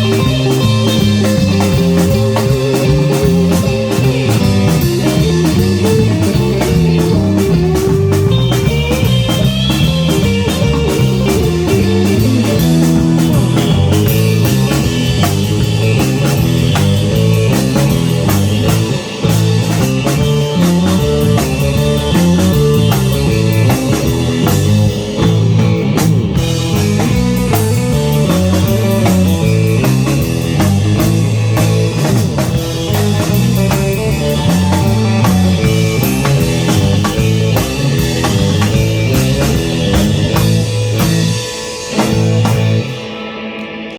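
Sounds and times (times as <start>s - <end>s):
drum kit: 0.0s - 43.9s
guitar: 0.0s - 43.9s.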